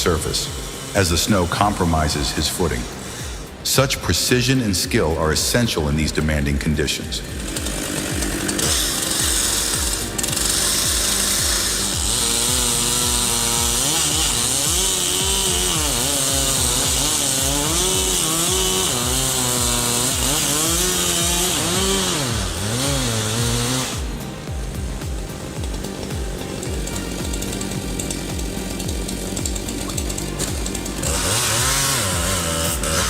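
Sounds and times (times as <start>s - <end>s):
background music with beat: 0.0s - 33.0s
chainsaw cutting: 0.0s - 33.0s.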